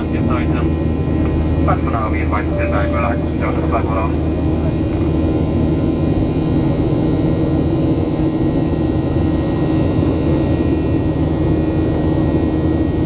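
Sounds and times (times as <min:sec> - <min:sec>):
jet engine drone: 0:00.0 - 0:13.0.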